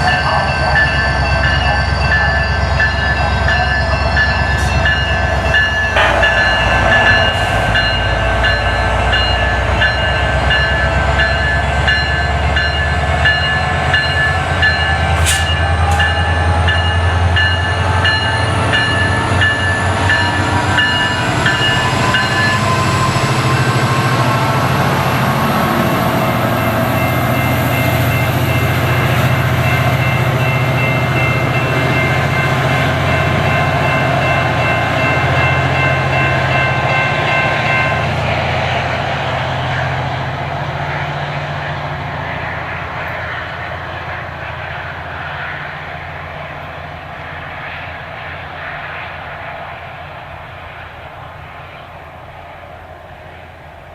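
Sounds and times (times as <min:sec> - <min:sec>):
diesel train engine rumble: 0:00.0 - 0:53.9.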